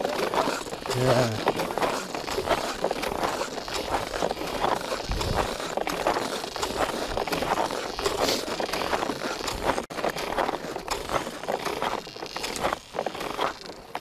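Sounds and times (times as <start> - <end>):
snowshoes crunching on snow: 0.0 - 14.0.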